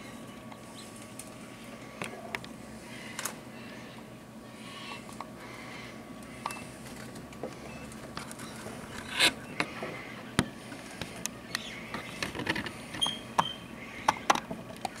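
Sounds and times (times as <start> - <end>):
ducks whistling and twittering: 2.8 - 15.0.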